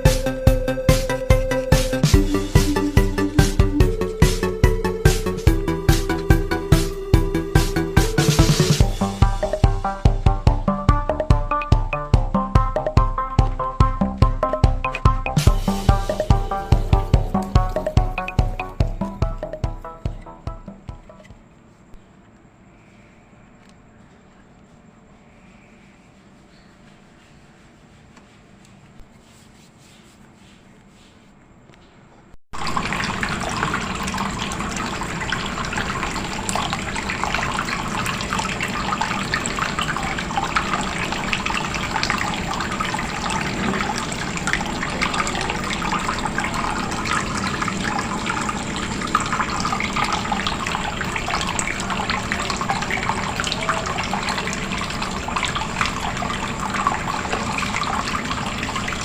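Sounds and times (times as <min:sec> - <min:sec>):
water splashing and trickling: 0:00.0 - 0:21.3, 0:32.6 - 0:59.0.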